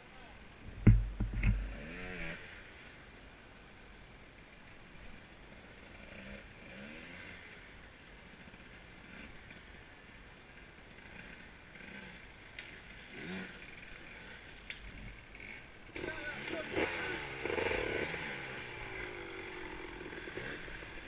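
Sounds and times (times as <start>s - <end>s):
faint dirt bike engine revving: 0.0s - 21.0s.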